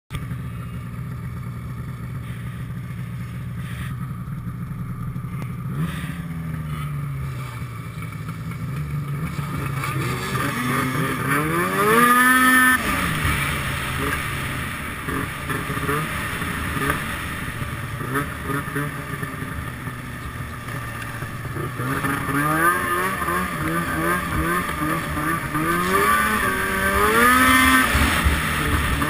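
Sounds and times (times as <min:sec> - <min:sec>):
snowmobile engine revving: 0:00.2 - 0:29.0.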